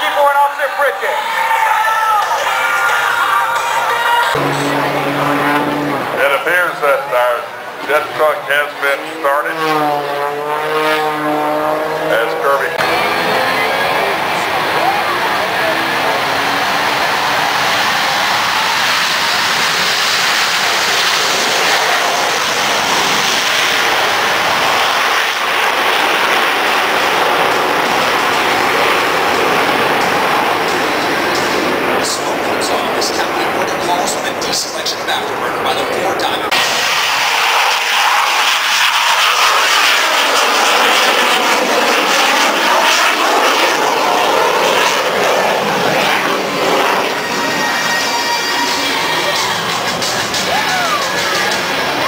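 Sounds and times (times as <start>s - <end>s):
jet engines roaring: 0.0s - 52.0s.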